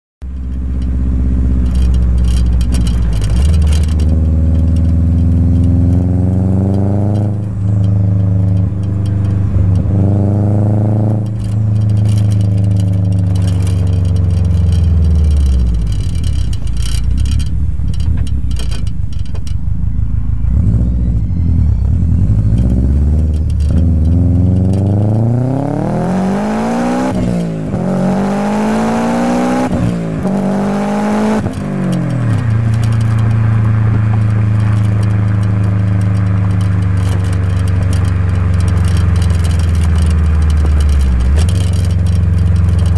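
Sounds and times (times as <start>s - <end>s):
car engine revving: 0.3s - 42.9s.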